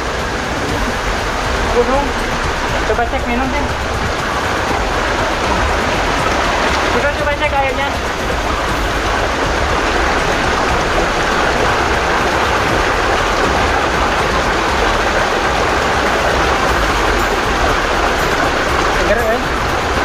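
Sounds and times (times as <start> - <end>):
water running down rock: 0.0 - 20.0.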